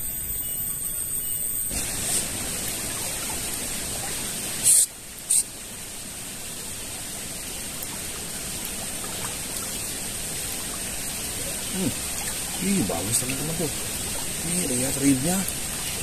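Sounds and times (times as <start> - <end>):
water rushing in a ditch: 0.0 - 16.0.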